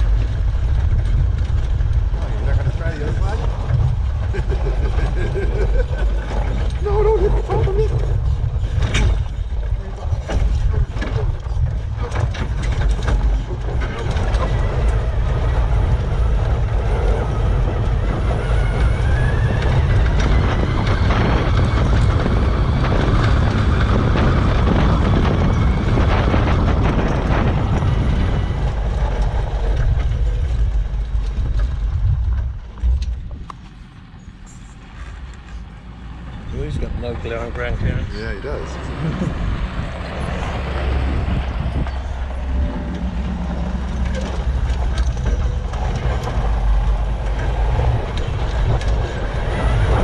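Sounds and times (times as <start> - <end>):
chassis creaking and knocking: 0.0 - 50.0
transmission whine: 0.0 - 50.0
vehicle low rumble: 0.0 - 50.0.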